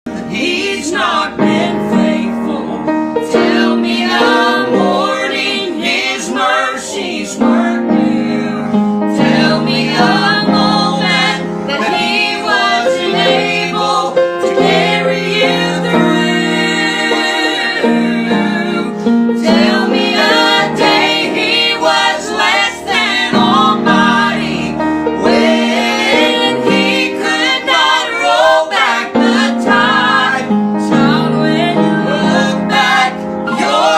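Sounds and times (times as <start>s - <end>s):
piano accompaniment: 0.0s - 33.9s
person singing gospel: 0.1s - 33.9s.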